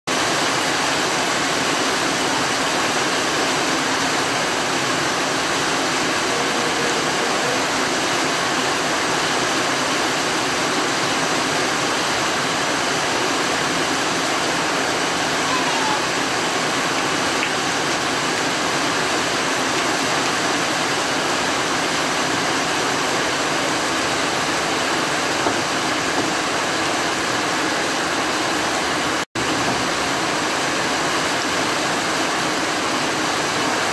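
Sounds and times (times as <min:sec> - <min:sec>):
rain falling on trees: 0:00.1 - 0:33.9.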